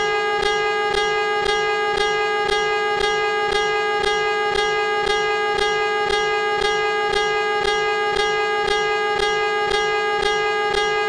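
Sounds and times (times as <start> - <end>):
buzzy pulsing alarm tone: 0.0 - 11.0.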